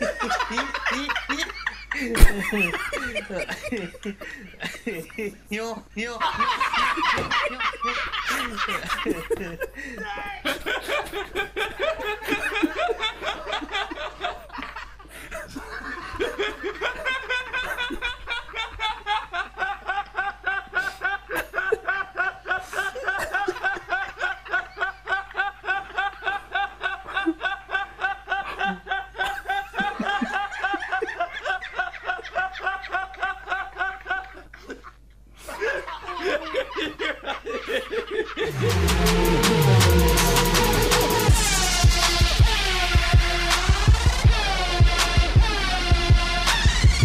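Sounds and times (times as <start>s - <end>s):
man laughing hard: 0.0s - 42.4s.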